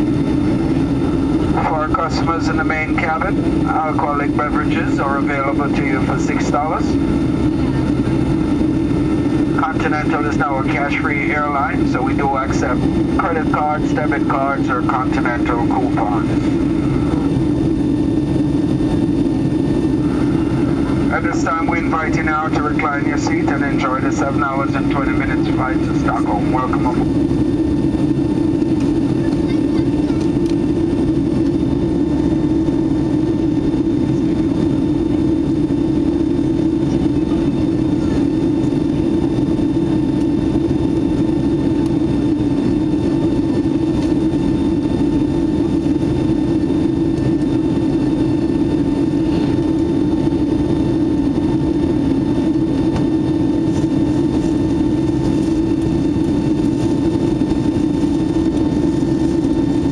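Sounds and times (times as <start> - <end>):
low engine and airflow rumble: 0.0 - 59.9.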